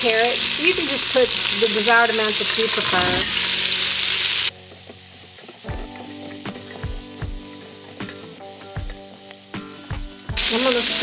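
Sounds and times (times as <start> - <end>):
vegetables sizzling in a pot: 0.0 - 11.0.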